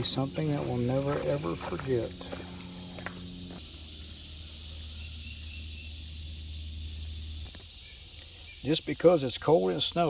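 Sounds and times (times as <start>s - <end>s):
low steady hum: 0.0s - 9.9s
crickets and insects chorus: 0.0s - 10.0s.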